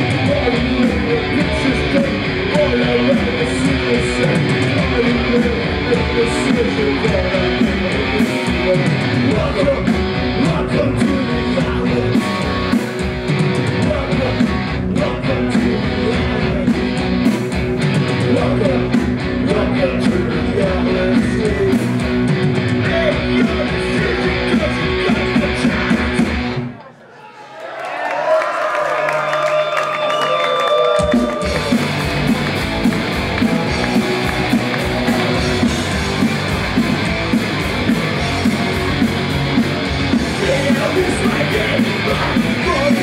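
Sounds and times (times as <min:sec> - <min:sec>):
drums and cymbals: 0:00.0 - 0:26.6, 0:31.0 - 0:43.0
distorted electric guitars: 0:00.0 - 0:26.8, 0:31.0 - 0:43.0.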